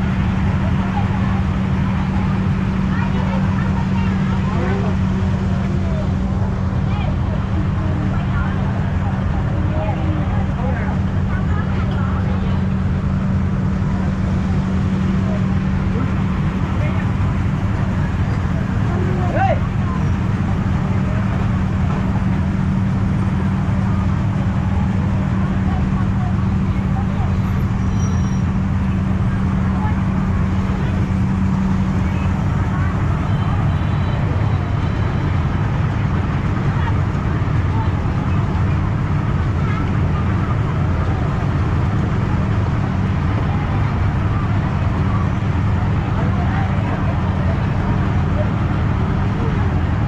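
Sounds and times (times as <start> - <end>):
engine running: 0.0 - 50.0
faint voices: 0.0 - 50.0.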